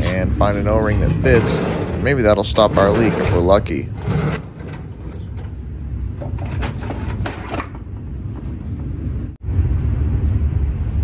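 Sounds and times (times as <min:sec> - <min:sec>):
low rumble: 0:00.0 - 0:06.3, 0:07.9 - 0:11.0.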